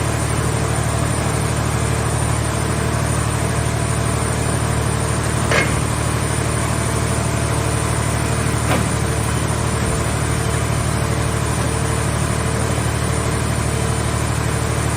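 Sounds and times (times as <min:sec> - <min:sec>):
power unit low hum: 0:00.0 - 0:14.9.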